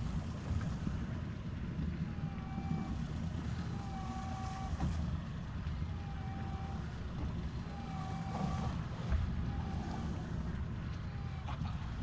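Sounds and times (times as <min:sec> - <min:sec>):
wind and boat rumble: 0:00.0 - 0:12.0.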